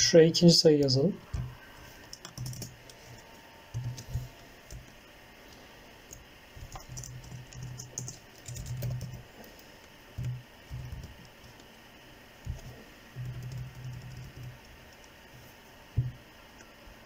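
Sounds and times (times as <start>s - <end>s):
low hum: 1.0s - 17.0s.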